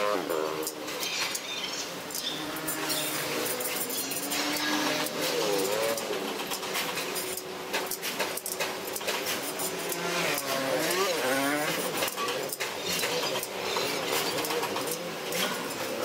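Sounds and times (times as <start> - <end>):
motorbikes passing: 0.0 - 16.0
traffic noise: 0.0 - 16.0.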